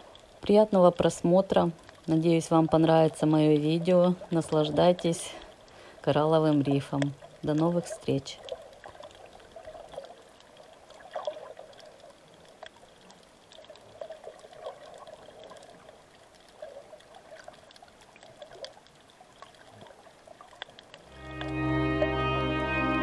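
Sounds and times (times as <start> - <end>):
sea water sloshing and bubbling: 0.0 - 21.1.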